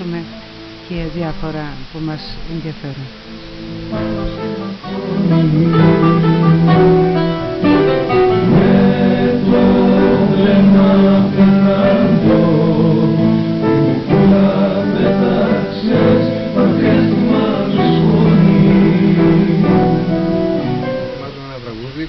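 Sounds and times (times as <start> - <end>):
voices singing: 0.9 - 21.2
plucked acoustic guitar: 3.7 - 21.5.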